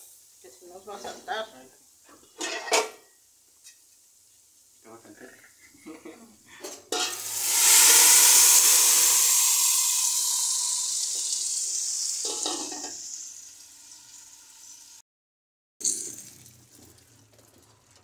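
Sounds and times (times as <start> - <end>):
tomato sizzling in hot oil: 0.0 - 5.2, 6.7 - 15.0, 15.8 - 18.0.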